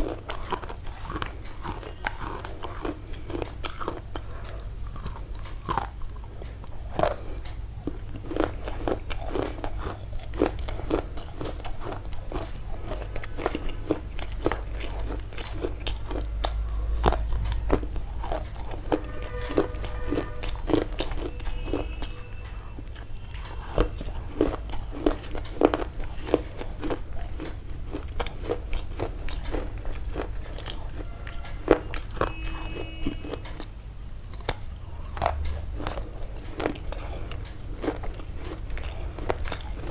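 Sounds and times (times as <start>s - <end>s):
crunchy biting and chewing: 0.0s - 39.9s.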